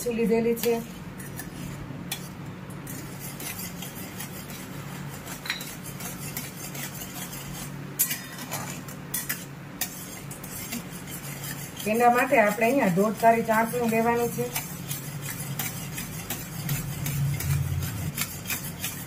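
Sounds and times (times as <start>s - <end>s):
spatula scraping a steel pan: 0.0s - 19.0s
steady low hum: 0.0s - 19.0s.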